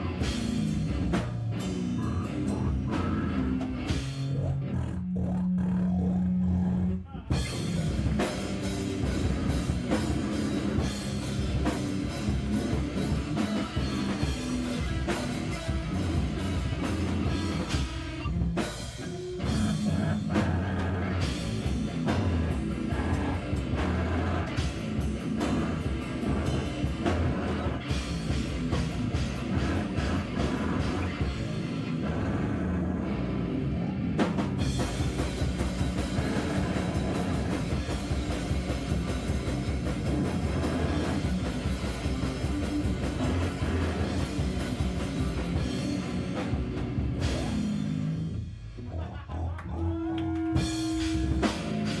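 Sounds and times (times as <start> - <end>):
live heavy rock band: 0.0 - 5.0, 7.3 - 49.3, 49.9 - 52.0.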